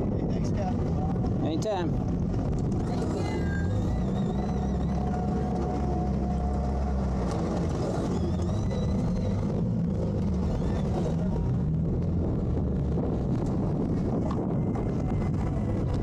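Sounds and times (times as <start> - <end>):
outboard motors running: 0.0 - 16.0.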